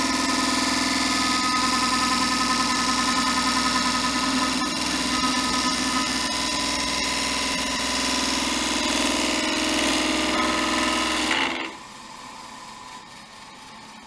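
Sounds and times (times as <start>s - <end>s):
lathe motor hum: 0.0s - 13.6s.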